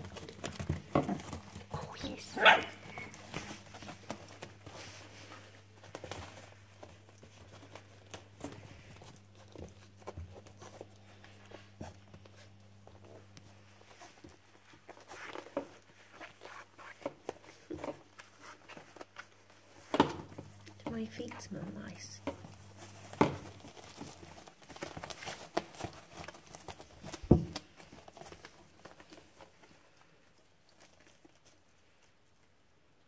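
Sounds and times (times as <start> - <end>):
puppies moving on crinkly pads: 0.0 - 33.0.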